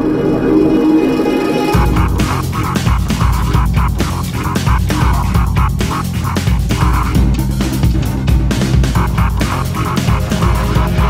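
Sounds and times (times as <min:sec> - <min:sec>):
sustained music chords: 0:00.0 - 0:11.0
heavy drum beat: 0:01.7 - 0:11.0.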